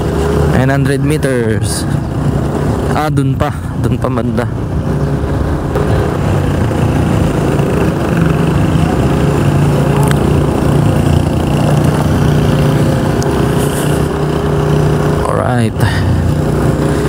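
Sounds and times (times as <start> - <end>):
road and wind noise: 0.0 - 17.0
scooter engine running: 0.0 - 17.0.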